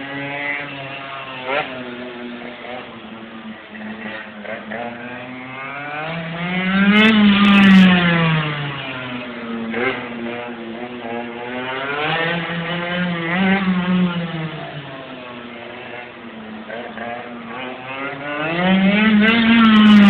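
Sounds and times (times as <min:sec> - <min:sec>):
small motorbike engine revving: 0:00.0 - 0:20.0.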